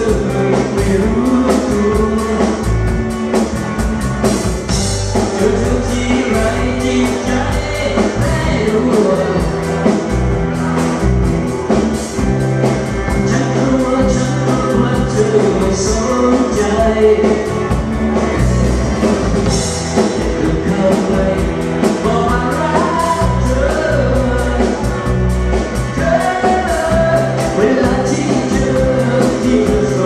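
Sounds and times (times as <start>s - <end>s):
live band playing: 0.0s - 30.0s
steady drum beat: 0.0s - 30.0s
stepping bass line: 0.0s - 30.0s.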